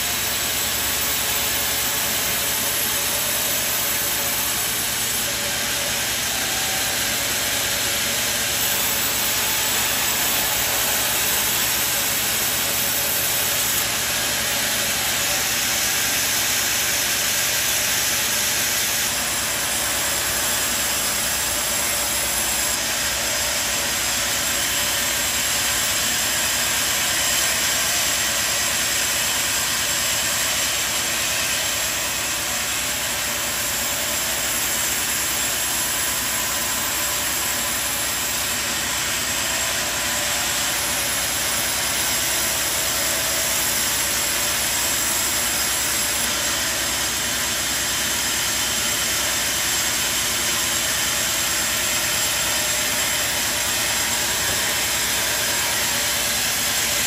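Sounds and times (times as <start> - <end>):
machinery noise with hiss: 0.0 - 57.0.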